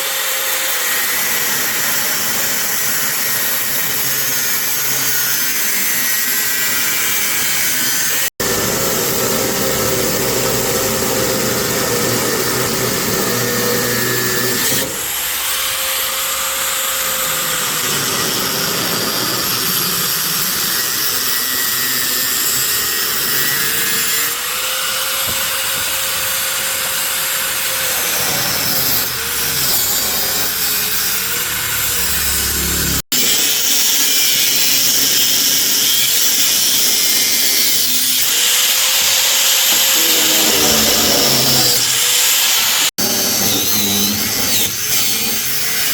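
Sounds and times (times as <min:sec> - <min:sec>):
power tool whining: 0:00.0 - 0:45.9.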